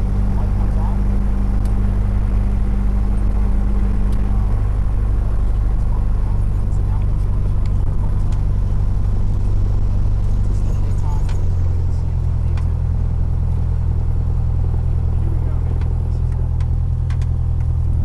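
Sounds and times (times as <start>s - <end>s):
aircraft engine drone in cabin: 0.0s - 18.0s.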